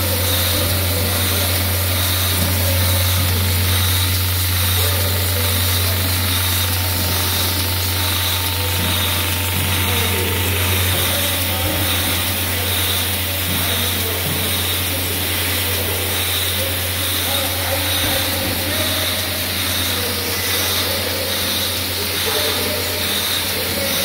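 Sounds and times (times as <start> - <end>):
machine humming: 0.0 - 24.0
machinery hiss: 0.0 - 24.0.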